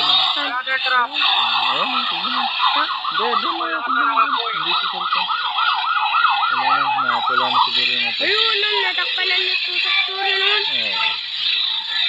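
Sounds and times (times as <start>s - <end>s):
siren yelping: 0.0s - 12.0s.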